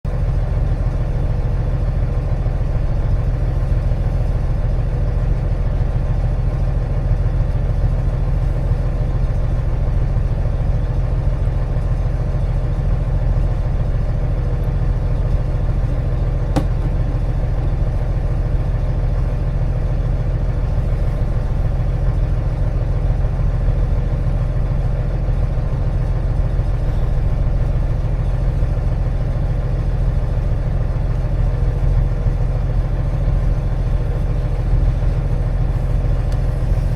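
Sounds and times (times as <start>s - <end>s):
diesel truck idling: 0.1s - 36.9s.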